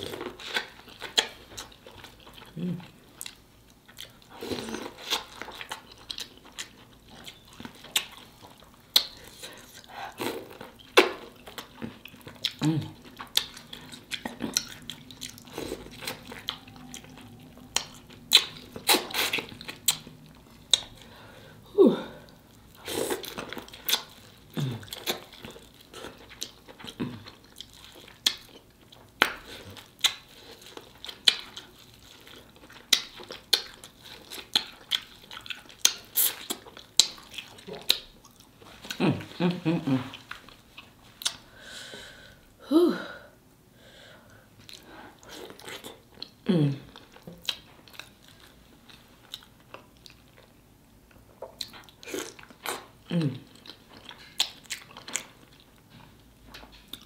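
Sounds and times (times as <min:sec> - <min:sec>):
wet smacking and chewing: 0:00.0 - 0:21.2, 0:22.2 - 0:41.5, 0:44.6 - 0:57.0.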